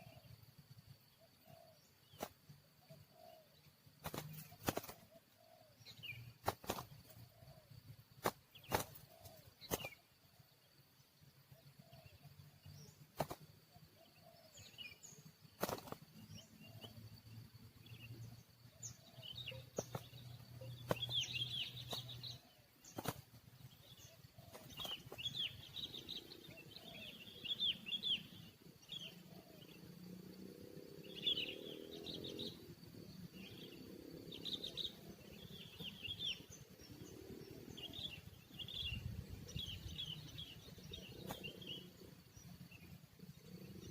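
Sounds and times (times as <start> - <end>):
wild birds chirping: 0.0 - 43.9.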